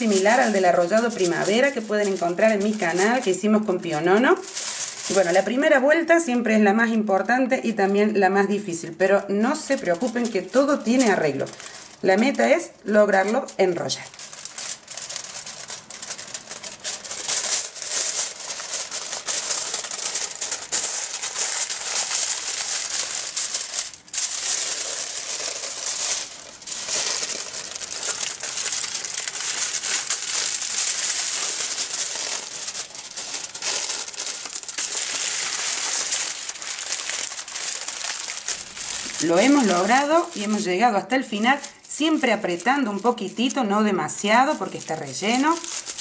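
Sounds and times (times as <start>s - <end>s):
aluminium foil crinkling: 0.0s - 46.0s.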